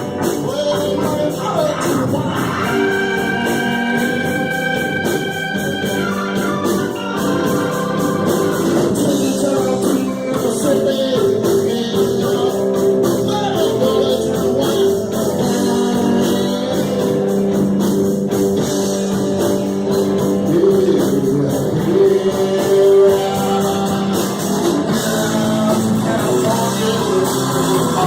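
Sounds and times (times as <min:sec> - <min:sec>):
singing voice over held chords: 0:00.0 - 0:17.7, 0:19.9 - 0:28.0.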